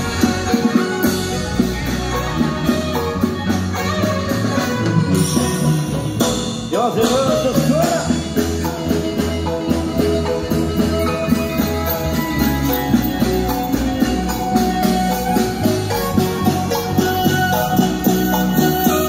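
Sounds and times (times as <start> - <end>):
drum kit beat: 0.0 - 19.0
marimba melody: 0.0 - 19.0.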